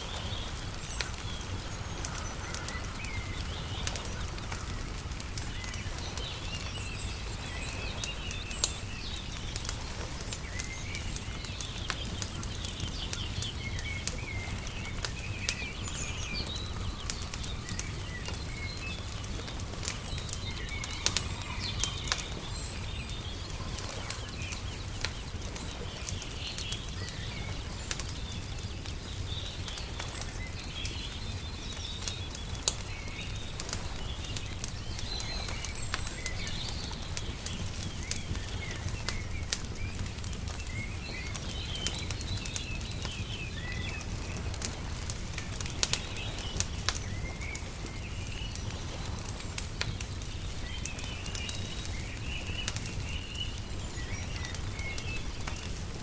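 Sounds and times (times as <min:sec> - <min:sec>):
small birds chirping: 0:00.0 - 0:56.0
wood fire crackling and popping: 0:00.0 - 0:56.0.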